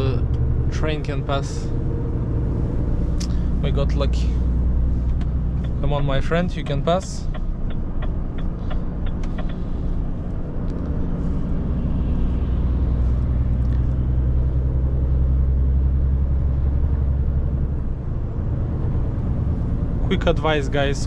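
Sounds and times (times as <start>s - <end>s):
diesel truck engine from cab: 0.0s - 21.0s.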